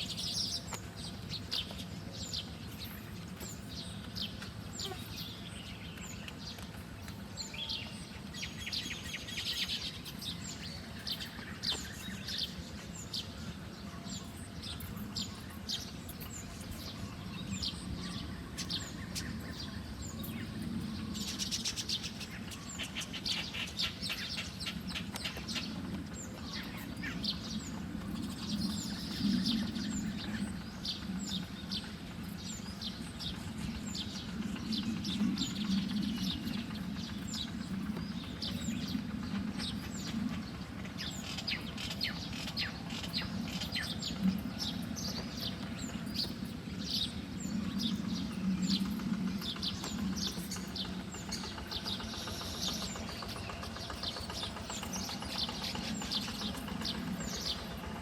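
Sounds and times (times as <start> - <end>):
small birds chirping: 0.0 - 58.0
steady low hum: 0.0 - 58.0.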